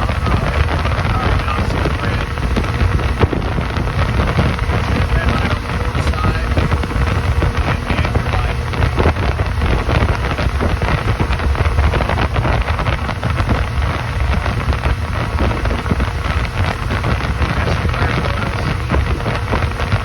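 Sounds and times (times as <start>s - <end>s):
boat engine rumble: 0.0s - 20.0s
water noise: 0.0s - 20.0s
wind buffeting microphone: 0.0s - 20.0s.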